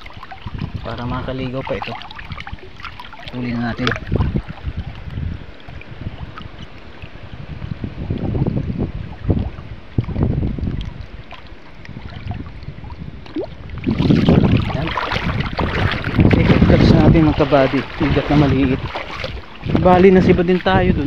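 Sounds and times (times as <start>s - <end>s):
river water splashing: 0.0s - 21.0s
wind buffeting microphone: 0.0s - 21.0s.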